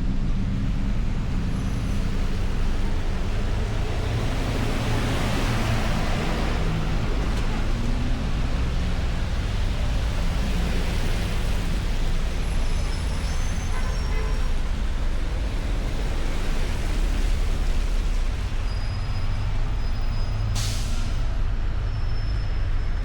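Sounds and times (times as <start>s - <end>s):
car driving on snowy road: 0.0s - 20.6s.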